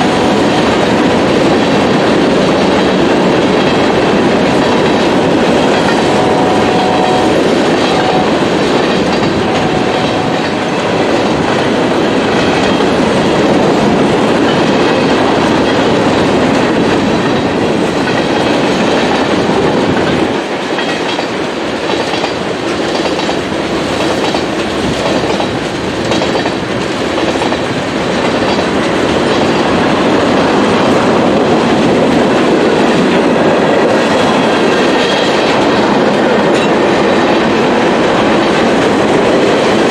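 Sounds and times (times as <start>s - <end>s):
freight train wheels rumbling: 0.0s - 39.9s
wheels clacking over rail joints: 0.0s - 39.9s.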